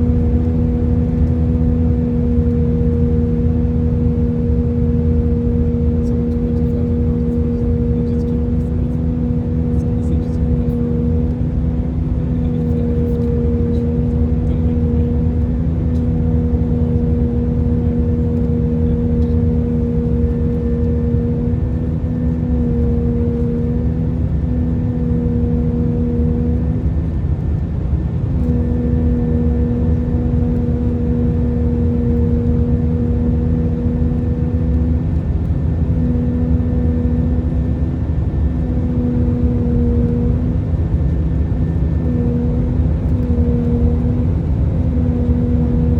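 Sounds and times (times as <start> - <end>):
aircraft cabin rush: 0.0 - 45.9
steady low hum: 0.0 - 45.9.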